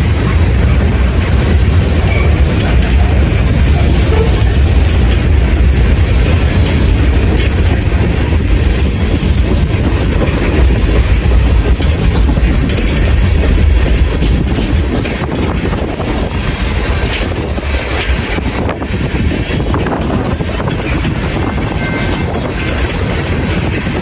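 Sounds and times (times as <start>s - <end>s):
train rumbling past: 0.0s - 24.0s
wheels clacking over rail joints: 0.0s - 24.0s.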